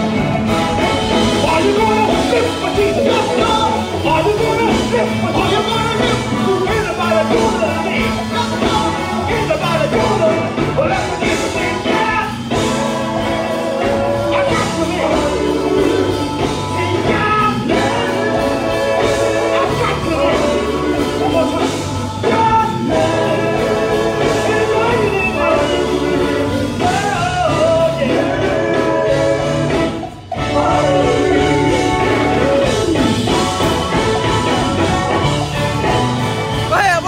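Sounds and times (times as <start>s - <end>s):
band accompaniment: 0.0s - 37.0s
gospel group singing: 0.0s - 37.0s.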